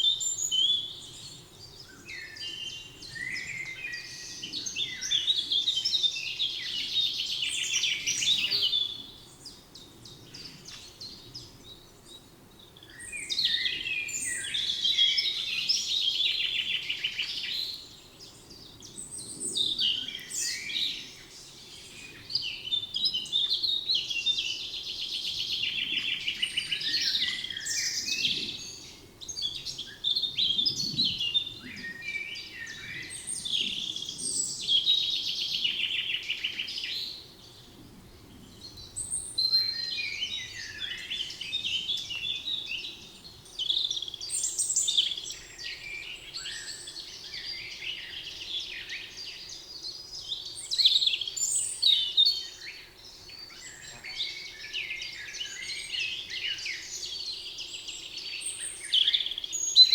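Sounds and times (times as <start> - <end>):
songbirds trilling and warbling: 0.0 - 59.9.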